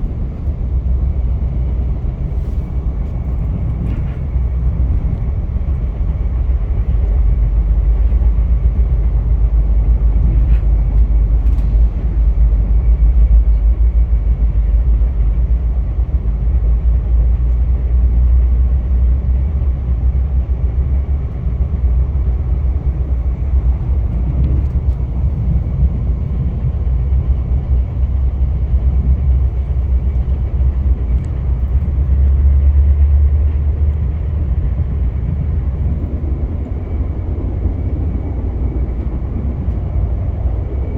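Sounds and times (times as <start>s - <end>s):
train rumbling on tracks: 0.0s - 40.9s.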